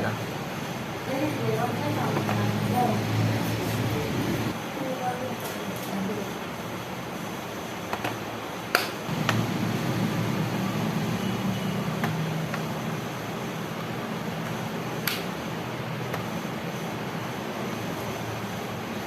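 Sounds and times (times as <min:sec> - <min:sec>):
steady low hum: 0:00.0 - 0:04.9, 0:08.3 - 0:19.0.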